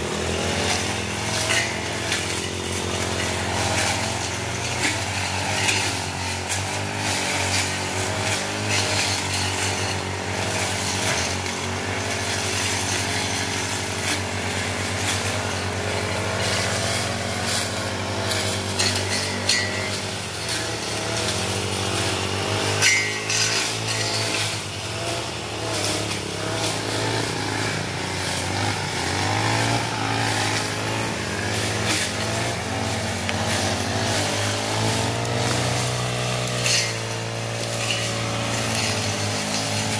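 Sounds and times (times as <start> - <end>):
brush cutter engines droning: 0.0 - 39.9.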